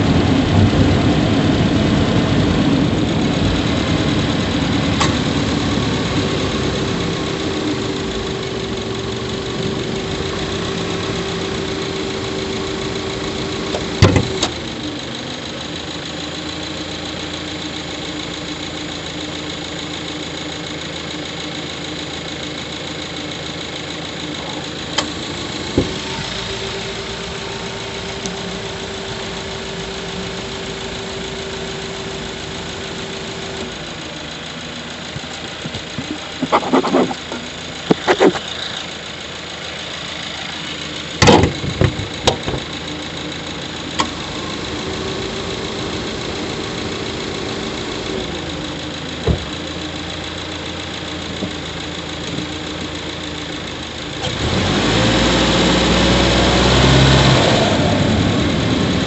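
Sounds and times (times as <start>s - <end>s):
turbocharged car engine running: 0.0s - 59.0s.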